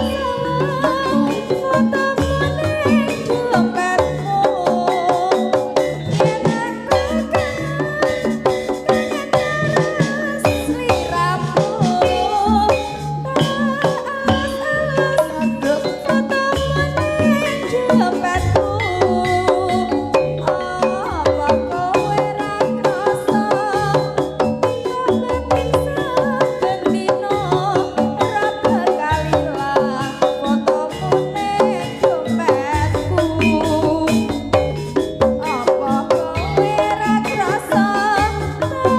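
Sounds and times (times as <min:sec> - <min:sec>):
repeating drum beat: 0:00.0 - 0:38.9
wavering melodic line: 0:00.0 - 0:38.9.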